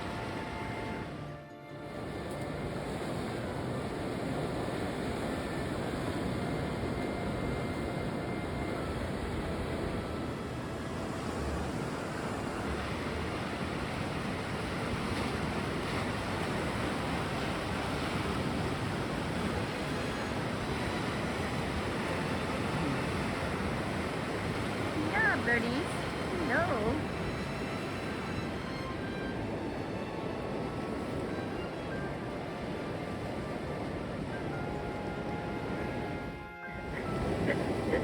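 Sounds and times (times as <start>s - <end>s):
sea surf on shore: 0.0s - 38.0s.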